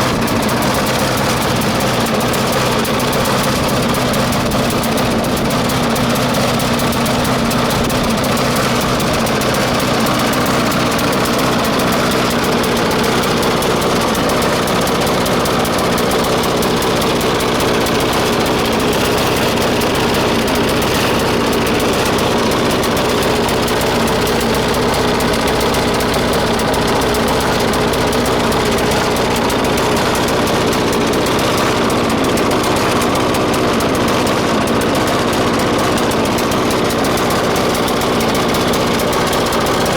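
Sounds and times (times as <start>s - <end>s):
lawn mower engine idling: 0.0s - 39.9s.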